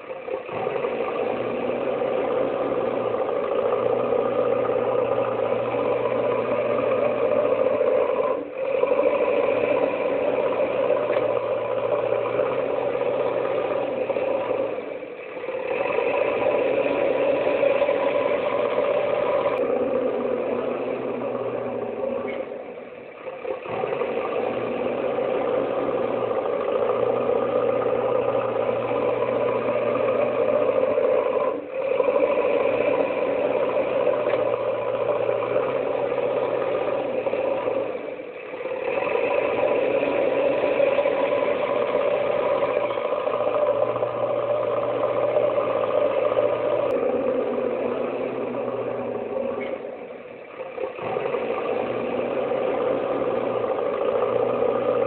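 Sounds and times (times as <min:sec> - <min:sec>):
engine hum with rattle: 0:00.0 - 0:55.0.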